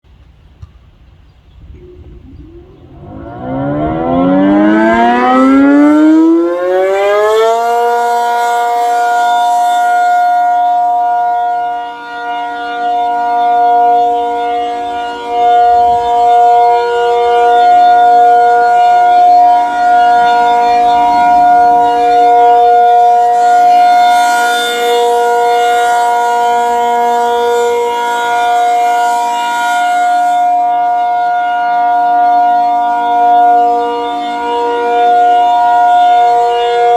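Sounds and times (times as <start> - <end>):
tornado siren winding up: 1.6 - 36.9.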